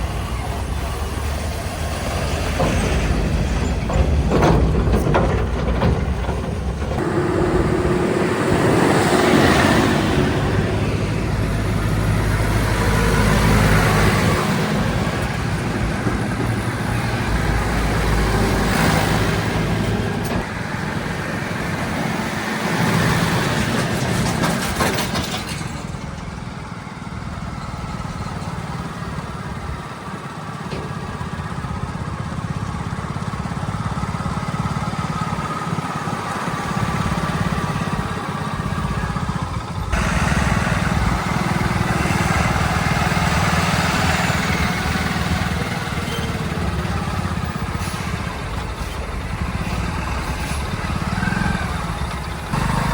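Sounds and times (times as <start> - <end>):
heavy machinery engines humming: 0.0 - 52.9
machinery working noise: 0.0 - 52.9.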